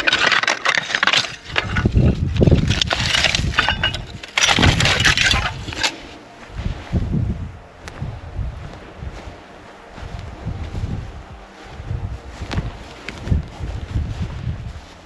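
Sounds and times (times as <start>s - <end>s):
crackling rustling noise: 0.0s - 15.0s
wind gusting against microphone: 1.3s - 15.0s.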